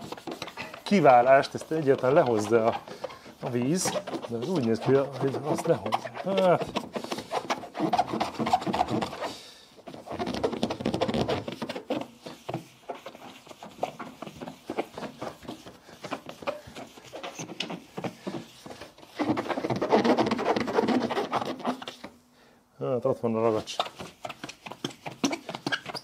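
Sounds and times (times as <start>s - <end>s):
wet sponge scrubbing with squeaks: 0.0s - 22.2s, 23.2s - 26.0s.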